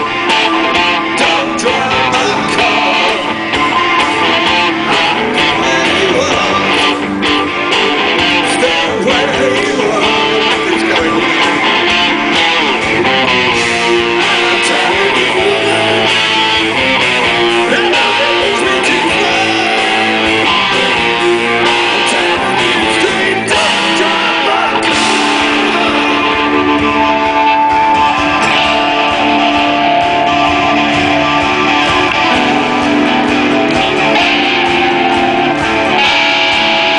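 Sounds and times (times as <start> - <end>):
rock band playing live: 0.0 - 36.9.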